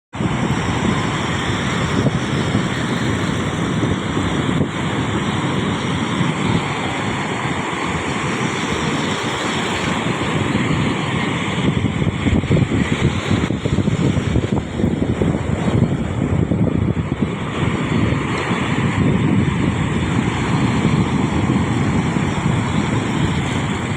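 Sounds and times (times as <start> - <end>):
wind buffeting microphone: 0.1 - 23.9
surf breaking on beach: 0.2 - 23.9.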